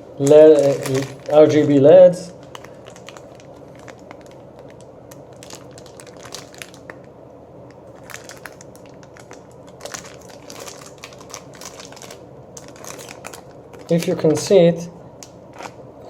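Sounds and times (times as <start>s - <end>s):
plastic packaging crinkling: 0.2s - 7.1s, 7.7s - 14.6s, 15.2s - 15.8s.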